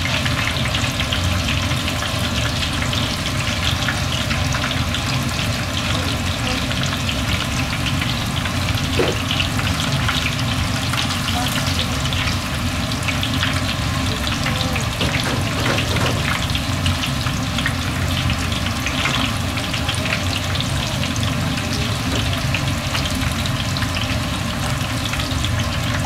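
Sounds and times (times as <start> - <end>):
deep-frying sizzle and pops: 0.0 - 26.0.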